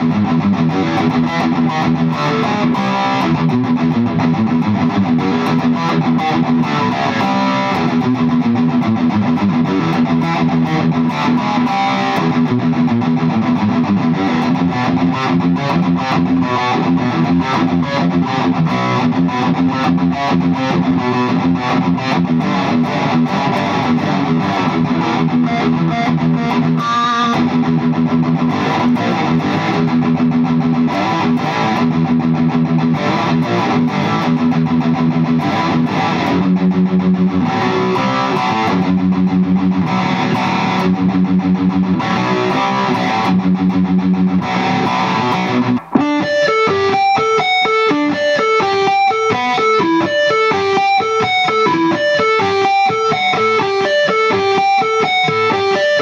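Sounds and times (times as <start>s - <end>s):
electric guitar picking and chords: 0.0s - 56.0s.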